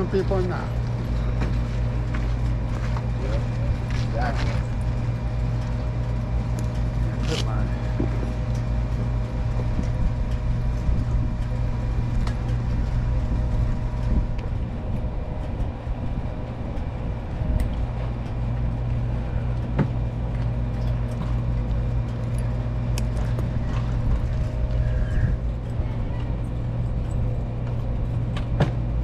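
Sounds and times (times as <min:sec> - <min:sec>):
motorcycle engine rumbling: 0:00.0 - 0:29.0.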